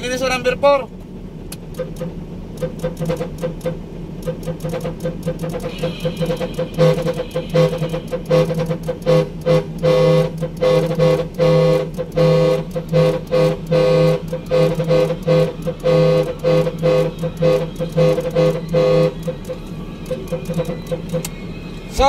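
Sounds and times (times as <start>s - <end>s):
truck musical horn honking: 1.8s - 22.0s.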